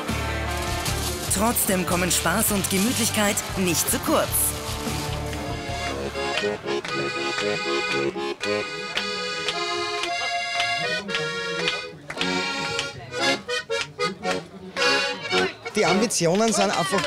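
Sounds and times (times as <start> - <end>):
button accordion playing a tune: 1.3 - 16.3.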